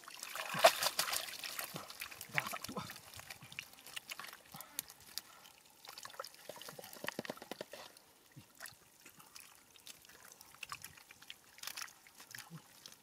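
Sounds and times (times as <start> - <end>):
muddy water dripping and splashing: 0.0 - 13.0.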